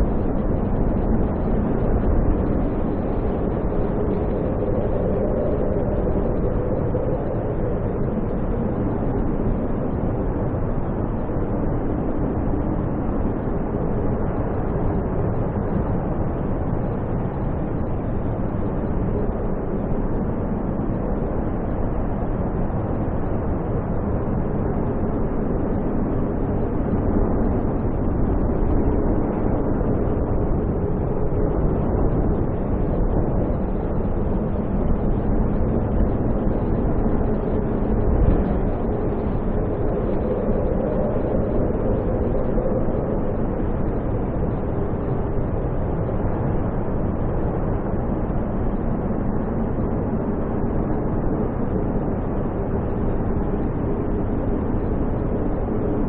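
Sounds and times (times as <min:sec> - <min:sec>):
roaring snowstorm wind: 0:00.0 - 0:56.0.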